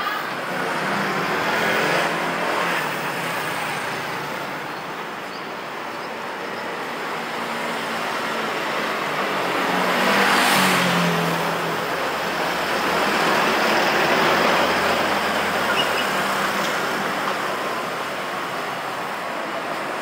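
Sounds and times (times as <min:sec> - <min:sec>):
cars and scooters passing: 0:00.0 - 0:20.0.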